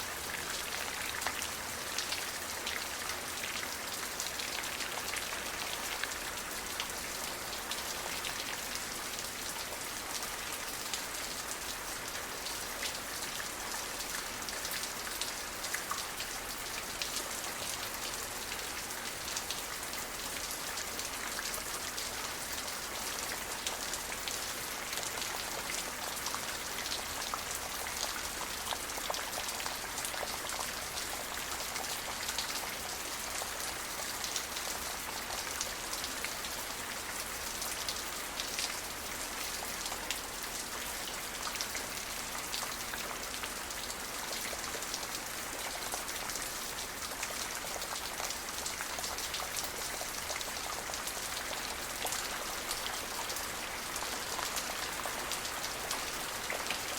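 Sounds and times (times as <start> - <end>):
rain drops pattering: 0.0 - 56.9.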